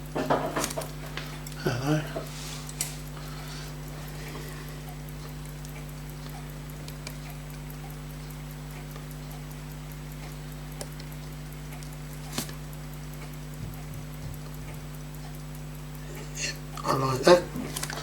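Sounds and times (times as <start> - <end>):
fast regular ticking: 0.0 - 18.0
low electrical hum: 0.0 - 18.0.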